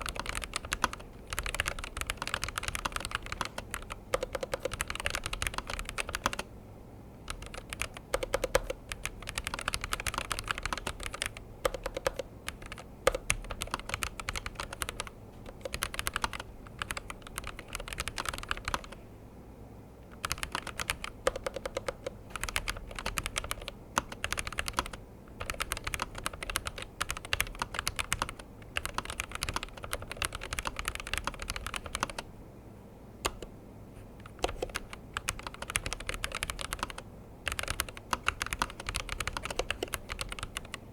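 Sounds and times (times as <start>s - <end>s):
typing on mechanical keyboard: 0.0s - 6.5s, 7.3s - 19.0s, 20.1s - 32.2s, 33.2s - 33.5s, 34.2s - 40.8s.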